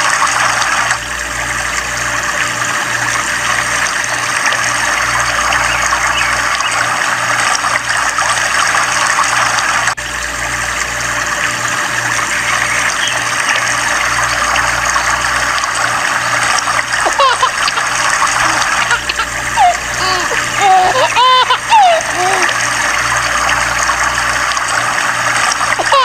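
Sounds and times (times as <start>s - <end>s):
pulsing pump hum: 0.0s - 26.0s
water trickling into a pool: 0.0s - 26.0s.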